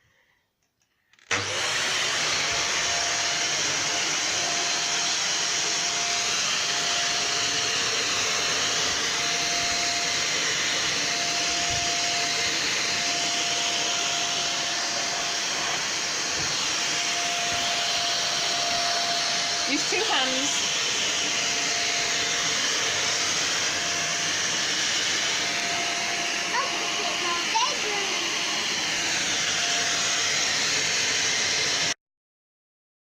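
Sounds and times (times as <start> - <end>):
vacuum cleaner running: 1.3 - 32.0.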